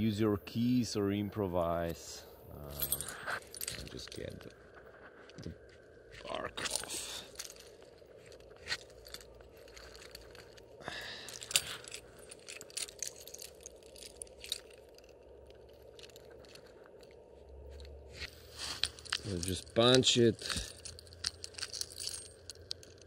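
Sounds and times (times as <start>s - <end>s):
scraping rustle: 2.7s - 23.0s.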